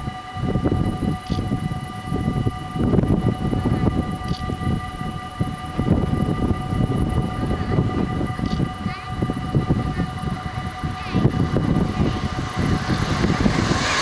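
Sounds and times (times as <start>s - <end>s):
distant electric train: 0.0s - 14.0s
high multi-tone hum: 0.0s - 14.0s
wind buffeting microphone: 0.0s - 14.0s.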